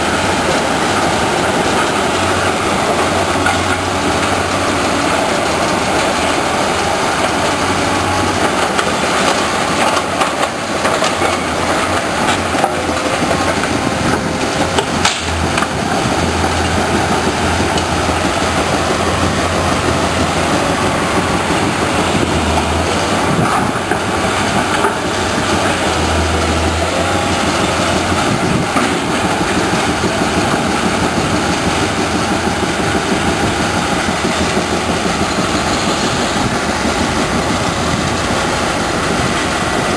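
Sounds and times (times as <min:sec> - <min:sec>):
excavator engine: 0:00.0 - 0:39.9
rock crusher machinery: 0:00.0 - 0:39.9.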